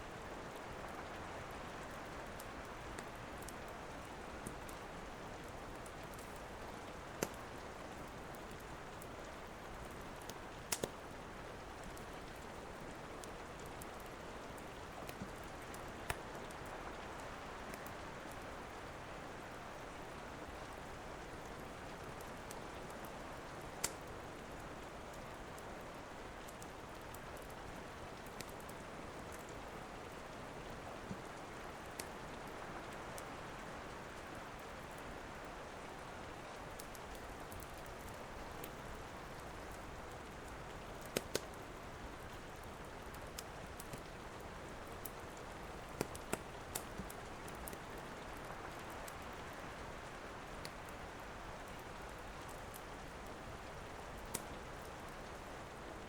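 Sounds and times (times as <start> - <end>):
rain hiss: 0.0 - 56.0
wood fire crackling and popping: 2.3 - 18.8, 20.8 - 29.7, 30.8 - 33.3, 36.6 - 55.5.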